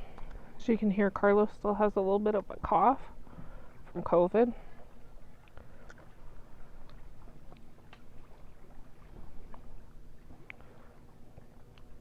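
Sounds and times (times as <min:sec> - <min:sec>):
faint low outdoor rumble: 0:00.0 - 0:12.0.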